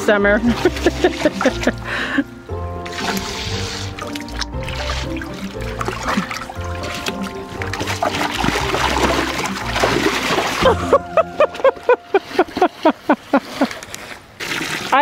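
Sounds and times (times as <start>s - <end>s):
water splashing in a pool: 0.4s - 15.0s.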